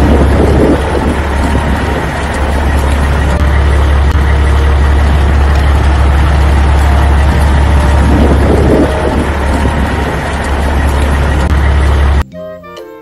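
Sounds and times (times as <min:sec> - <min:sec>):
low engine rumble: 0:00.0 - 0:12.3.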